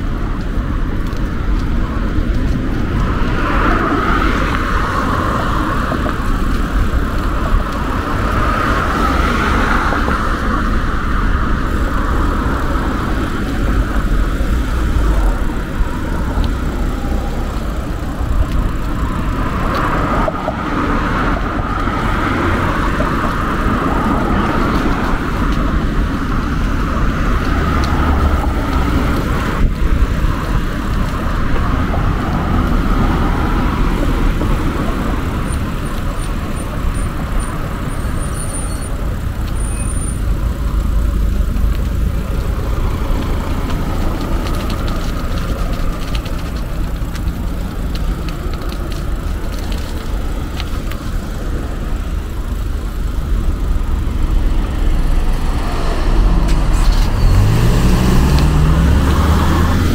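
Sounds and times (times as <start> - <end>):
cars passing: 0.0 - 59.9
vehicle engine accelerating: 1.0 - 59.9.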